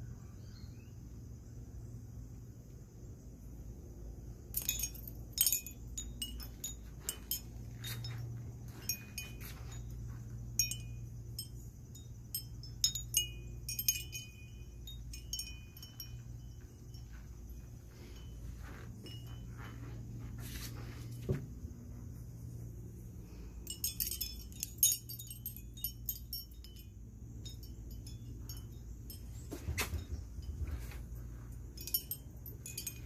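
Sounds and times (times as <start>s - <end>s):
low steady rumble: 0.0s - 33.0s
glass wind chimes clinking: 4.4s - 33.0s.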